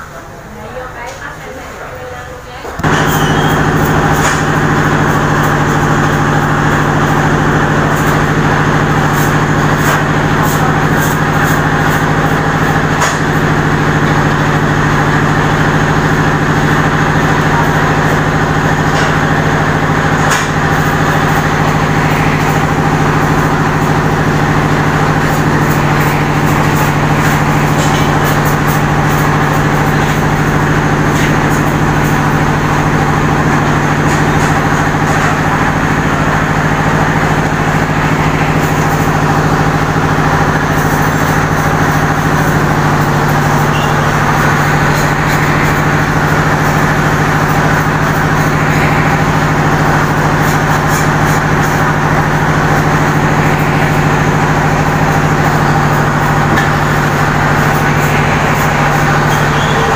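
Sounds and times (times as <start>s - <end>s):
mechanical hum with low drone: 0.0s - 59.9s.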